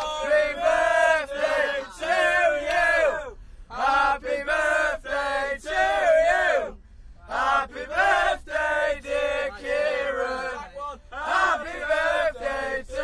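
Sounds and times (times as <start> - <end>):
young voices chanting: 0.0 - 13.0.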